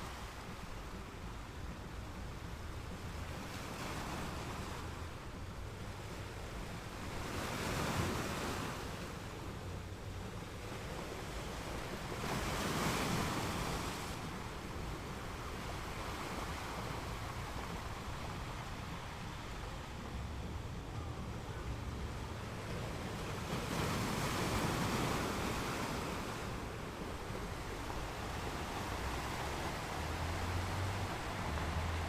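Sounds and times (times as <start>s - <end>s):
ocean waves breaking on shore: 0.0s - 32.0s.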